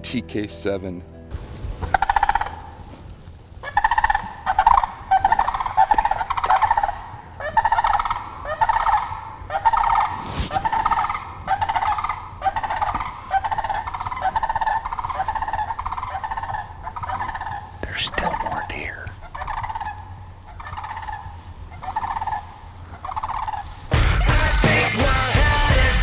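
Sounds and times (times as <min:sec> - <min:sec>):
turkeys rattling calls: 0:01.8 - 0:25.1.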